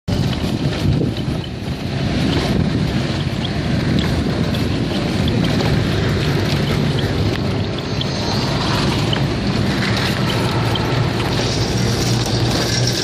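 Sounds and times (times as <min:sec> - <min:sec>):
rickshaw engine rumble: 0:00.1 - 0:13.0
wind buffeting microphone: 0:00.1 - 0:13.0.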